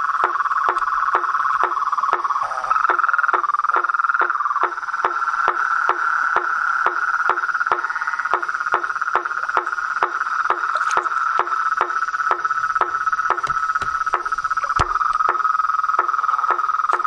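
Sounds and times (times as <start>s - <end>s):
frogs sharp clicking calls: 0.0s - 17.0s
frogs trilling: 0.0s - 17.0s.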